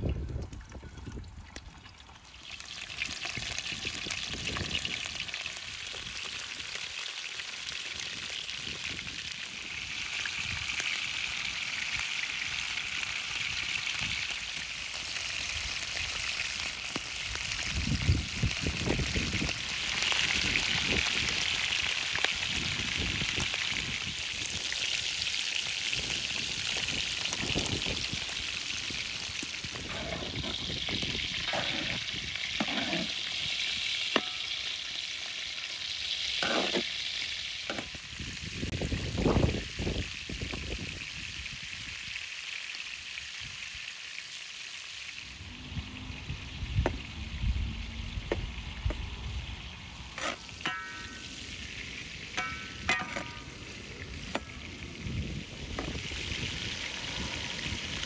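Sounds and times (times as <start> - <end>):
meat sizzling in hot fat: 2.0 - 58.0.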